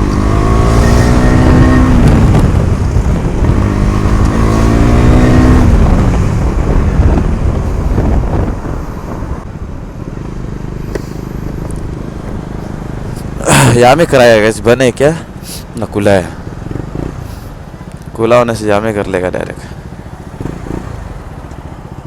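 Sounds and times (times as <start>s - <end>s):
motorcycle engine revving: 0.0s - 18.1s, 19.8s - 22.0s.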